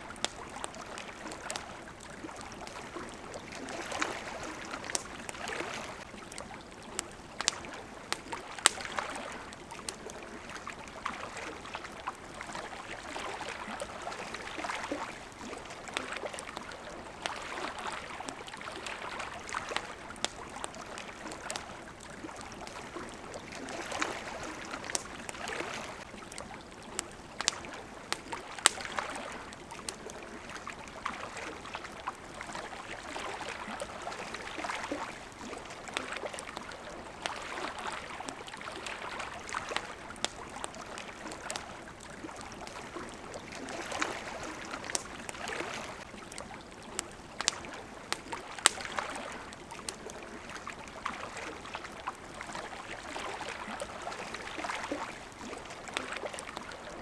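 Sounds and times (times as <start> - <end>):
campfire crackling: 0.0 - 57.0
water lapping: 0.0 - 57.0.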